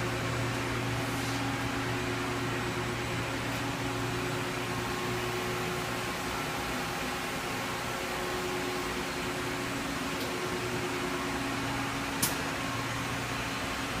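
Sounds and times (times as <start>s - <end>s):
lathe machine hum: 0.0s - 14.0s.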